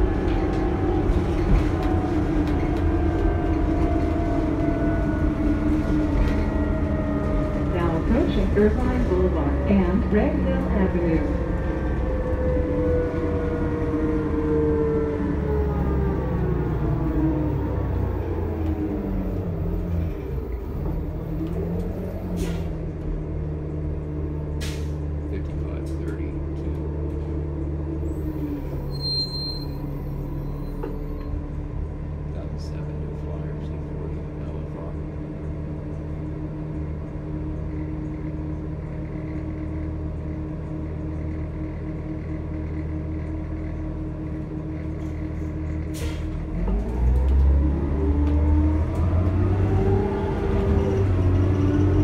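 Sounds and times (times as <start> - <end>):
bus engine running: 0.0 - 52.0.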